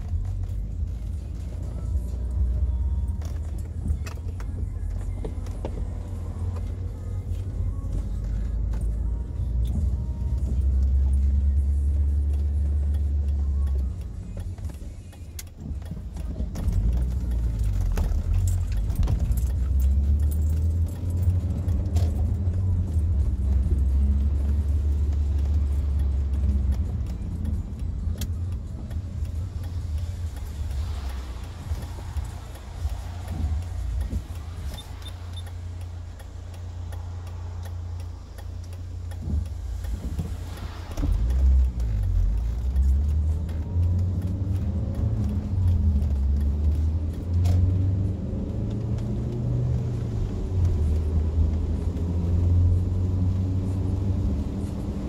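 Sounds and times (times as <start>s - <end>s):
car engine rumbling: 0.0s - 55.0s
rain ticking on car body: 9.5s - 55.0s.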